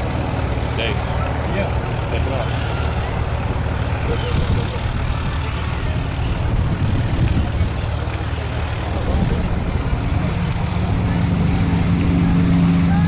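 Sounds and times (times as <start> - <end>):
radial aircraft engine rumbling: 0.0 - 13.0.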